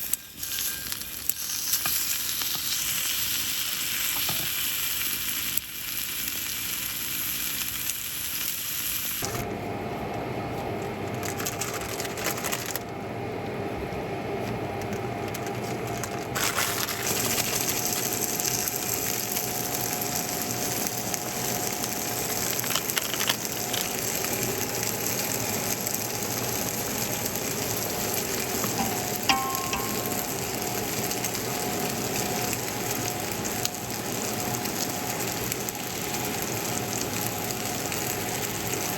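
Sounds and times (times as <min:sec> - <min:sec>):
food sizzling in a pan: 0:00.0 - 0:09.3, 0:16.4 - 0:38.9.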